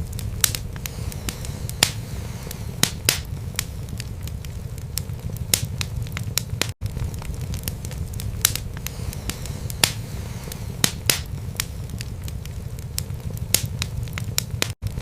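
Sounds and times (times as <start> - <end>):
fire crackling and popping: 0.0 - 15.0
low rumble of burning logs: 0.0 - 15.0.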